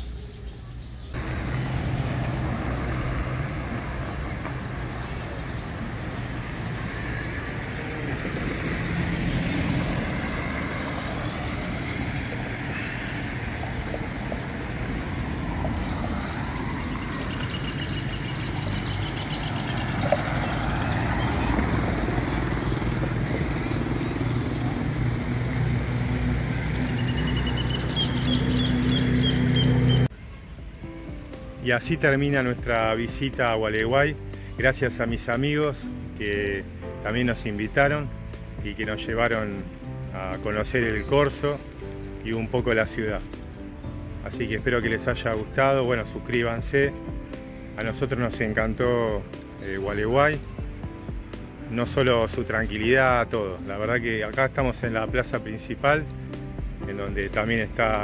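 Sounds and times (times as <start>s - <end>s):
road traffic: 0.0s - 58.0s.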